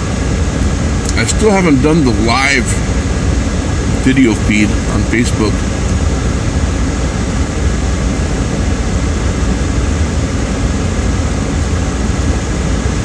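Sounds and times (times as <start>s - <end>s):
car air conditioning blowing: 0.0s - 13.0s
low engine rumble: 0.0s - 13.0s.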